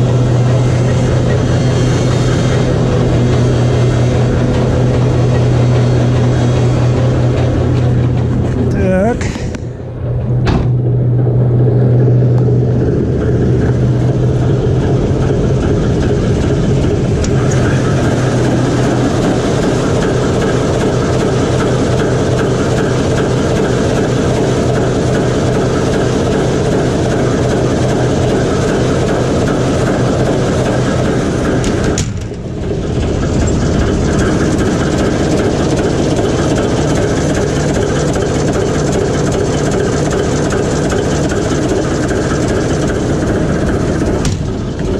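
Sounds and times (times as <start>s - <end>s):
diesel locomotive engine running: 0.0s - 44.9s.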